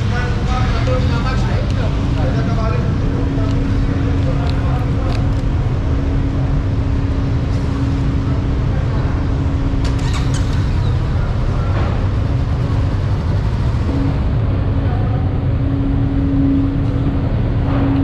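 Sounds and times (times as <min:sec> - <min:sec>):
motorcycle engine drone: 0:00.0 - 0:18.0.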